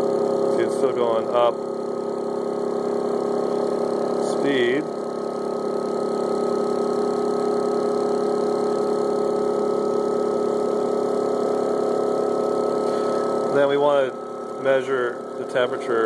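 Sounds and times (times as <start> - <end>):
electric motor humming: 0.0 - 16.0.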